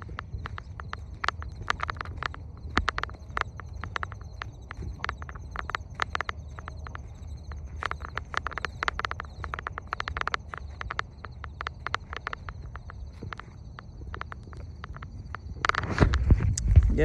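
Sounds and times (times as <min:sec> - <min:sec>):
quick irregular clicks or chirps: 0:00.0 - 0:16.8
steady high buzz: 0:00.0 - 0:17.0
wind rumble on microphone: 0:00.0 - 0:17.0.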